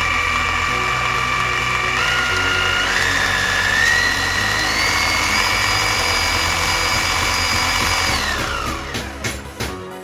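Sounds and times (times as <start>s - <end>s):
electric motor whining: 0.0s - 9.2s.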